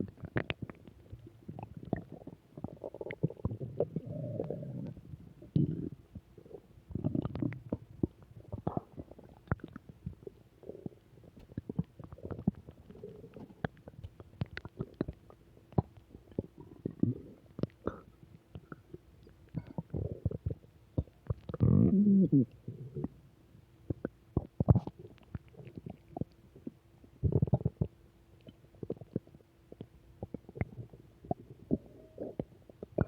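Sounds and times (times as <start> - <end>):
stomach growling and gurgling: 0.0 - 23.2, 23.9 - 33.0.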